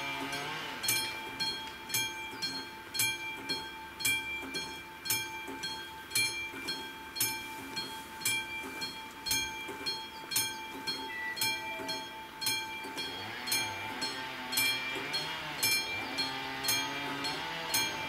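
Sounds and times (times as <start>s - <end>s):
level-crossing warning bell ringing: 0.0s - 18.0s.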